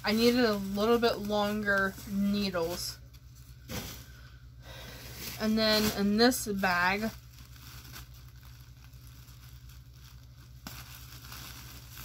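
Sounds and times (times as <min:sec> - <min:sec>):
shopping bag rustling: 0:00.0 - 0:12.0.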